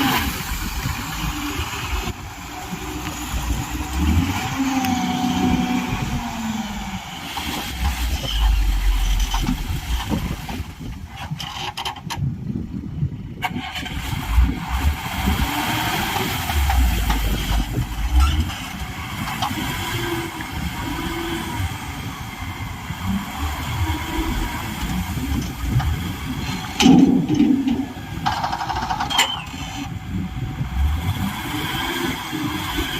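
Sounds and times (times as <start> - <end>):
heavy diesel engines rumbling: 0.0 - 32.9.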